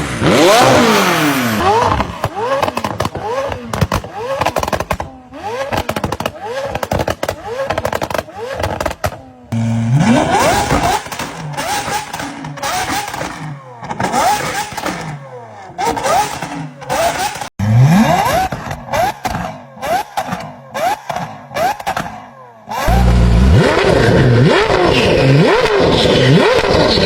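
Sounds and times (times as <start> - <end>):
supercar engines revving: 0.0 - 27.0.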